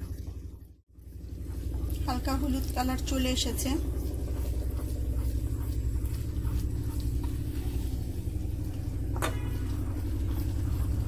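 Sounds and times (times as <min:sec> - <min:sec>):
steady low hum: 0:00.0 - 0:11.0
wooden spoon stirring syrup: 0:01.3 - 0:11.0.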